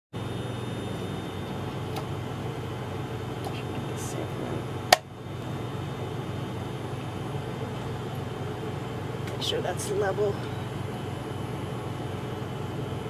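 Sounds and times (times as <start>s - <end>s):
ventilation fans humming: 0.2s - 13.0s.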